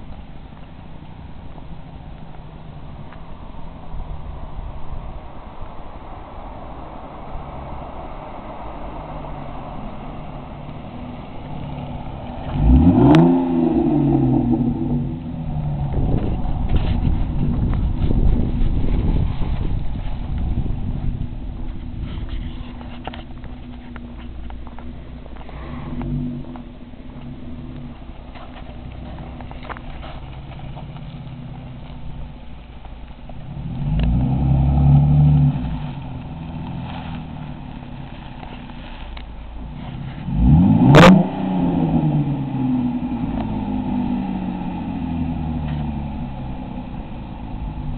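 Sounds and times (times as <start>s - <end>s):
car exhaust driving by: 0.0s - 47.9s.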